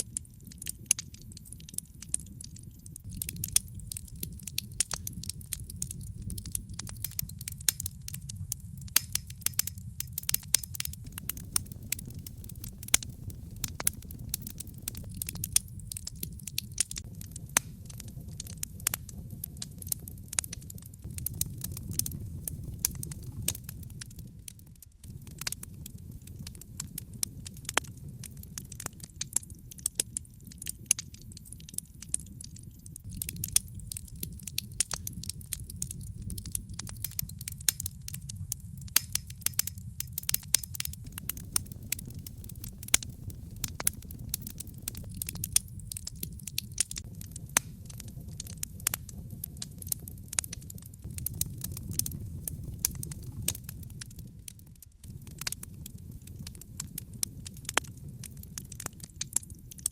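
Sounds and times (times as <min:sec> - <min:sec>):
logs crackling and popping: 0:00.0 - 0:59.9
low rumble of flame: 0:00.0 - 0:59.9.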